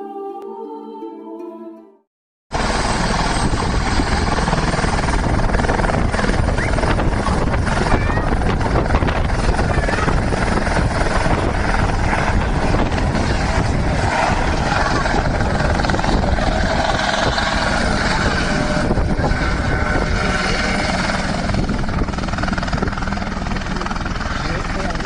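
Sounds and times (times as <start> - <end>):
helicopter hovering: 2.5 - 25.0.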